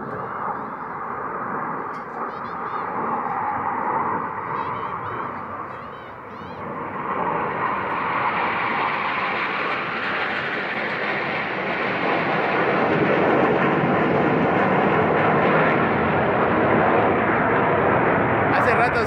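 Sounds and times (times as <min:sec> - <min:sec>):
jet fighters flying past: 0:00.0 - 0:19.0.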